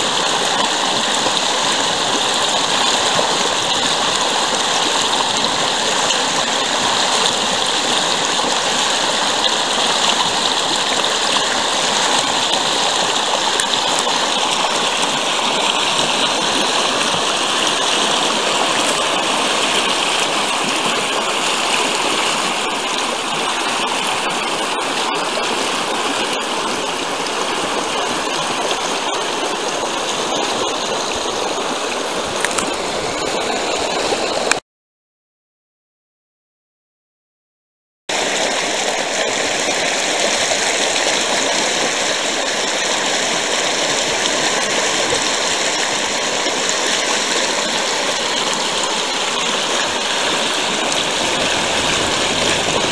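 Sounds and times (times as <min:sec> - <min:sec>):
creek water rushing over rocks: 0:00.0 - 0:34.6, 0:38.1 - 0:52.9.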